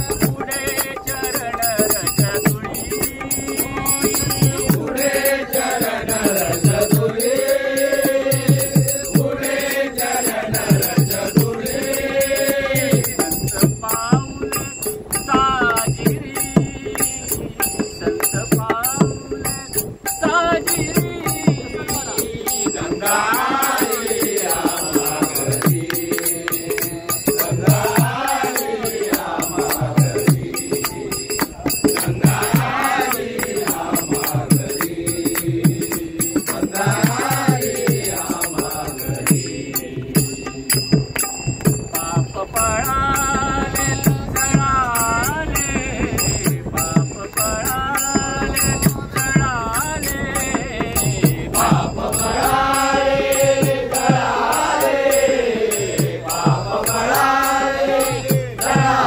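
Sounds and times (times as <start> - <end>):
men singing in unison: 0.0 - 59.0
small hand cymbals: 0.0 - 59.0.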